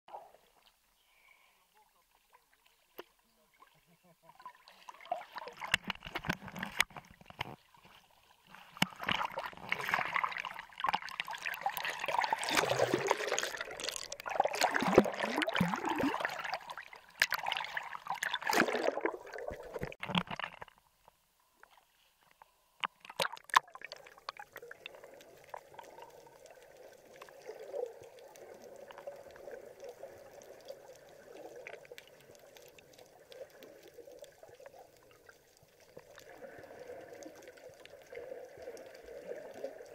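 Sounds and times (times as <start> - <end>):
water sloshing and splashing: 2.1 - 20.9, 22.8 - 39.9.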